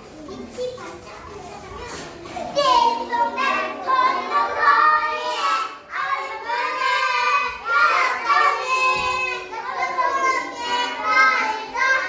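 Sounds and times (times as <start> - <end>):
young children singing: 2.2 - 12.0.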